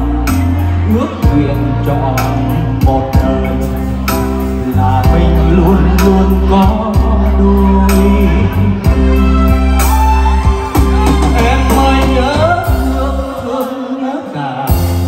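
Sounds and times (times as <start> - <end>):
man singing through microphone: 0.0 - 9.7, 10.6 - 15.0
electronic keyboard with drum beat: 0.0 - 14.0.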